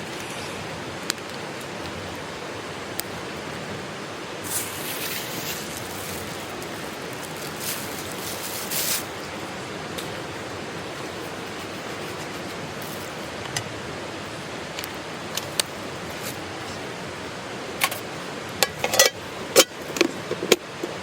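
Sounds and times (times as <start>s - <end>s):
campfire hissing and crackling: 0.0s - 21.0s.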